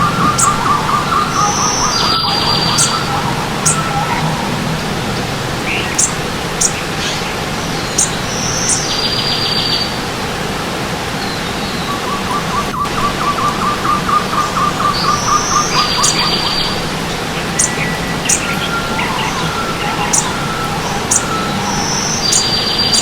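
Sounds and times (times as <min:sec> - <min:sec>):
bird trill: 0:00.0 - 0:09.9, 0:11.2 - 0:23.0
high buzzy bird call: 0:00.0 - 0:09.9, 0:11.2 - 0:23.0
stream water rushing: 0:00.0 - 0:23.0.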